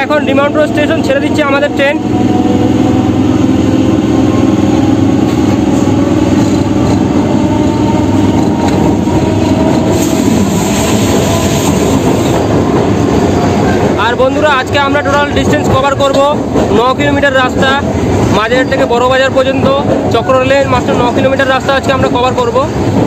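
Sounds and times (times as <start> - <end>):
train wheels on rails humming: 0.0 - 23.0.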